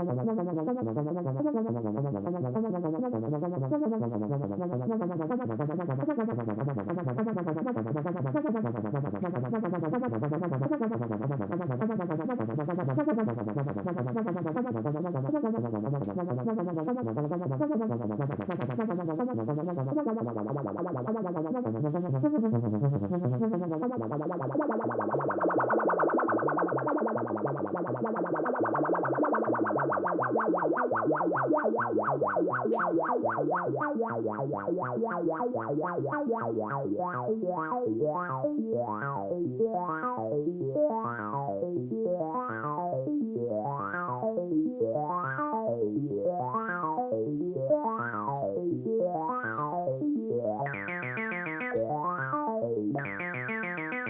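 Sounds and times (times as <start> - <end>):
synthesizer sequenced pattern: 0.0 - 54.0.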